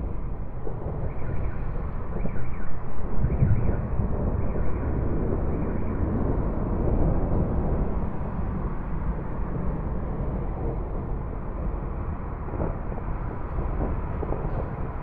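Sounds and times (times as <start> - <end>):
distant thunder rumbling: 0.0 - 15.0.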